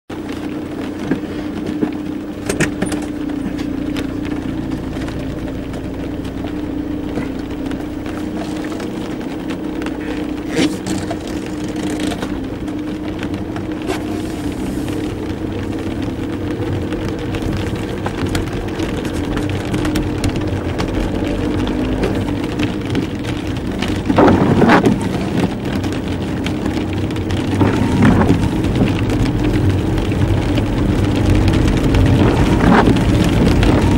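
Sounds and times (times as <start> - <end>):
car engine humming: 0.1 - 33.9
tyres on wet road: 0.1 - 33.9.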